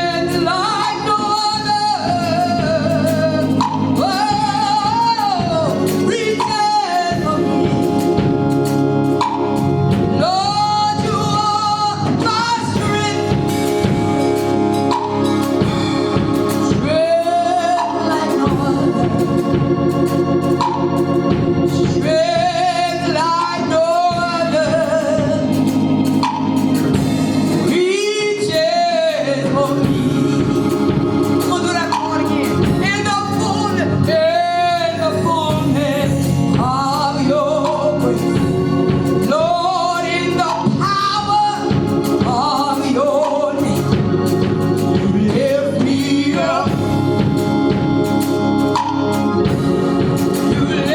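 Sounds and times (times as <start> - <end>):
organ chords: 0.0 - 50.9
person singing gospel: 0.0 - 50.9.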